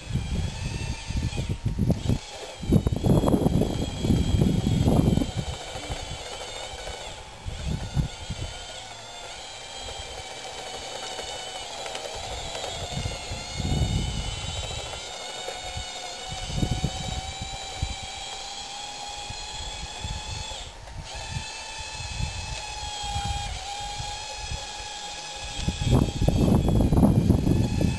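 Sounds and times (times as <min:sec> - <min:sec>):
electric motors whining: 0:00.0 - 0:27.9.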